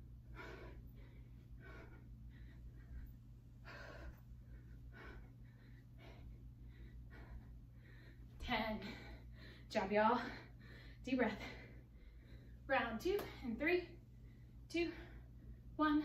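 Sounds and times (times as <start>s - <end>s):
woman breathing heavily: 0.0s - 15.8s.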